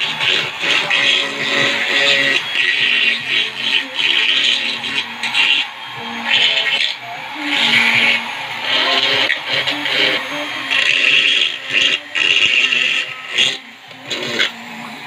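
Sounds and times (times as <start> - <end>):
rotary tool grinding: 0.0 - 15.0.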